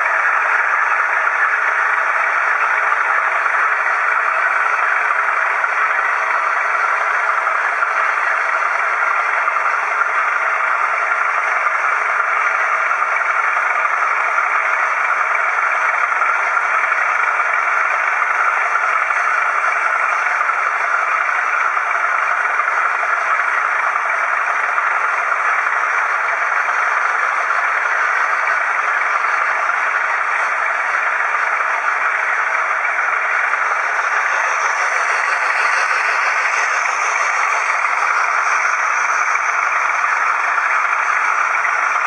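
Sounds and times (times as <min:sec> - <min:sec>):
model train wagon rolling: 0:00.0 - 0:42.0.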